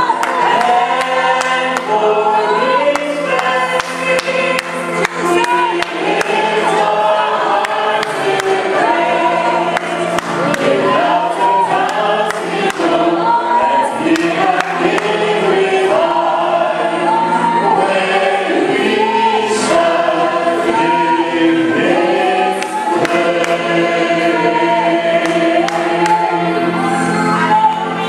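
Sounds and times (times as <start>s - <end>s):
choir singing a slow hymn: 0.0s - 28.0s
sustained accompaniment: 0.0s - 28.0s.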